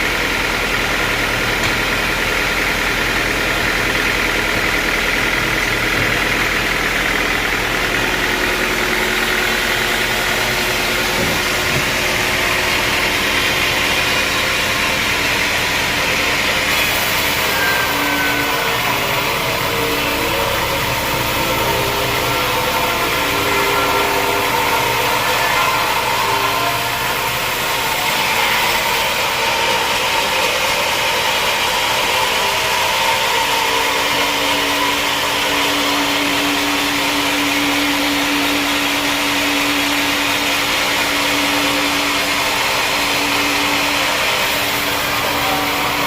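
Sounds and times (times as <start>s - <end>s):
sawmill machinery running: 0.0s - 46.0s.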